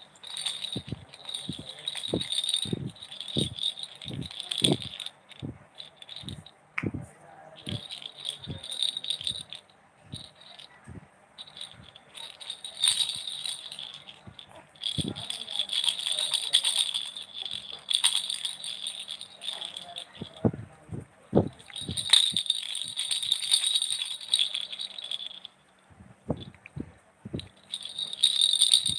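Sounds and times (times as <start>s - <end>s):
plastic baby rattle shaking: 0.1s - 6.5s, 7.6s - 10.8s, 11.4s - 20.6s, 21.4s - 25.6s, 26.3s - 28.9s.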